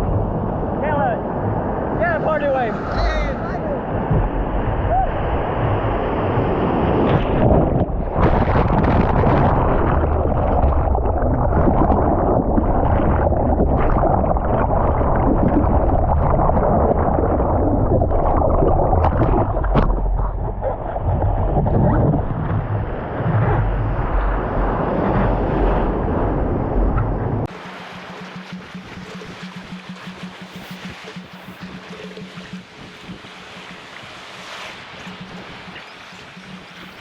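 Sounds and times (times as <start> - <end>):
surf churning over microphone: 0.0 - 37.0.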